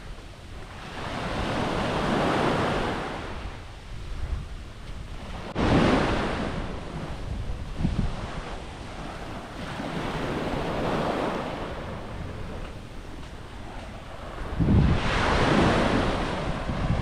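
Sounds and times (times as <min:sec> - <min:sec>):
small waves washing onto beach: 0:00.0 - 0:17.0
wind rumbling on microphone: 0:00.0 - 0:17.0.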